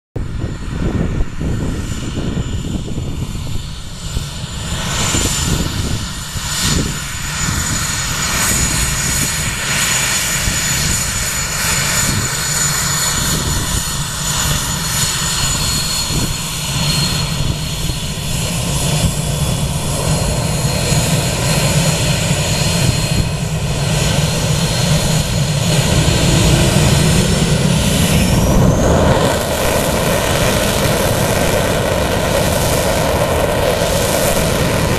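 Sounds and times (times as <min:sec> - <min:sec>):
jet engines whining: 0:00.2 - 0:34.9.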